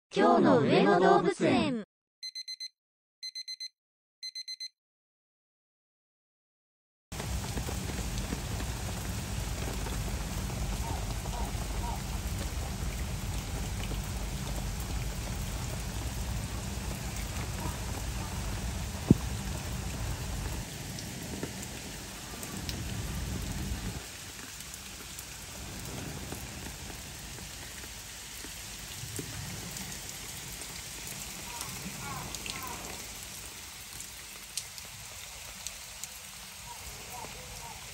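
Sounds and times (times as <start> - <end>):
rain falling on water and rocks: 7.1 - 37.9.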